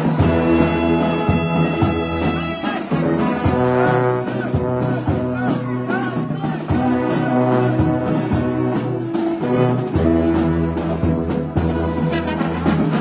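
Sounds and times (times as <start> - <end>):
brass band playing chords: 0.0 - 13.0
tuba bass line: 0.0 - 13.0.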